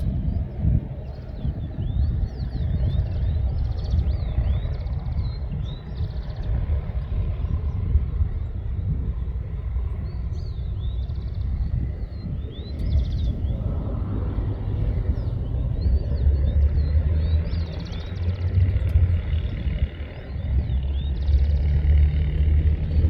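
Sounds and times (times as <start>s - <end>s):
jet engines rumbling: 0.0s - 23.0s
small birds chirping: 0.0s - 23.0s.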